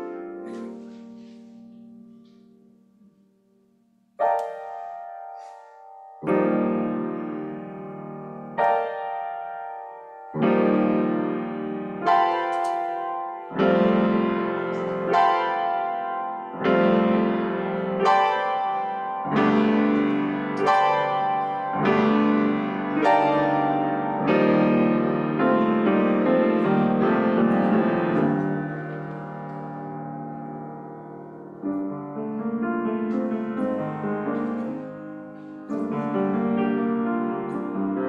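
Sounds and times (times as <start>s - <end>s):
piano playing slow chords: 0.0s - 38.0s.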